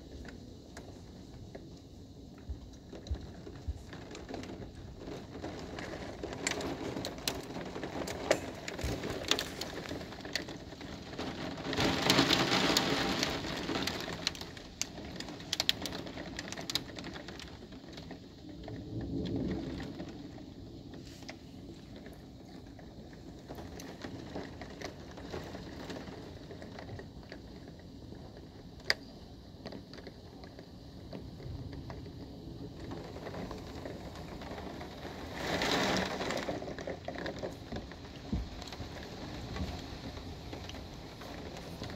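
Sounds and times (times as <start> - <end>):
heavy rain pouring: 0.0 - 41.9
raindrops ticking: 0.0 - 41.9.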